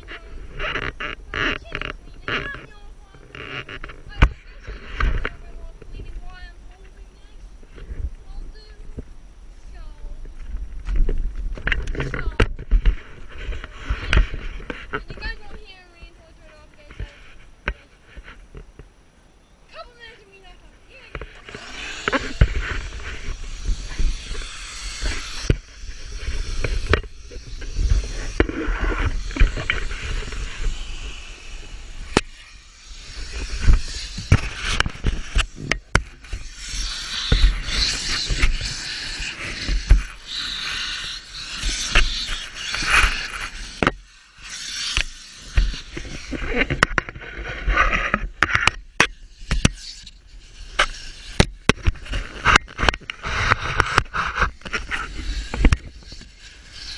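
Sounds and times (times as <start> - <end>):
camera case rubbing and knocking: 0.0 - 9.1, 9.8 - 15.8, 16.5 - 18.9, 20.9 - 56.9.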